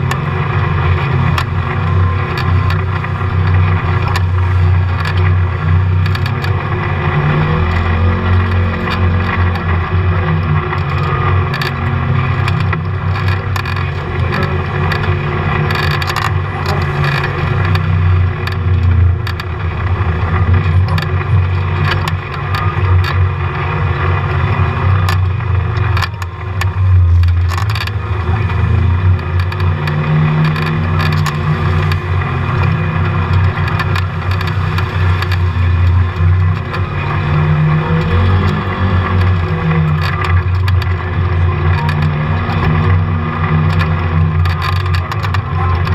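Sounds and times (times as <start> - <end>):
engine drone: 0.0 - 45.9.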